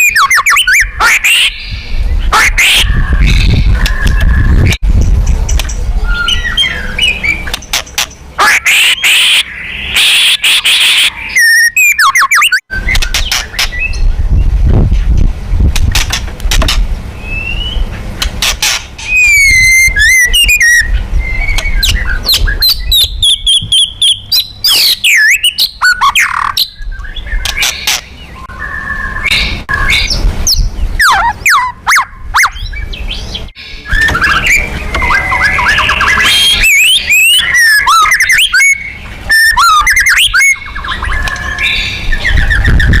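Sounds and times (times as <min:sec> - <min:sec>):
bird singing whistles and trills: 0:00.0 - 0:04.8, 0:05.5 - 0:07.8, 0:08.5 - 0:14.6, 0:17.2 - 0:17.9, 0:19.0 - 0:43.0.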